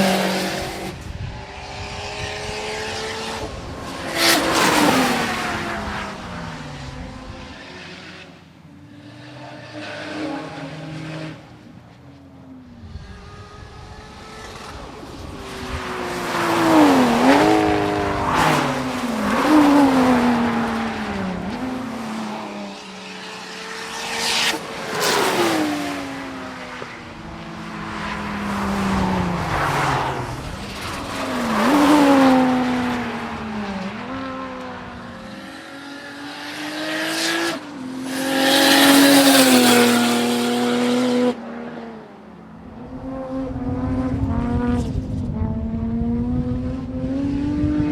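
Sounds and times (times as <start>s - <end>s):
race cars passing by: 0.0s - 47.9s.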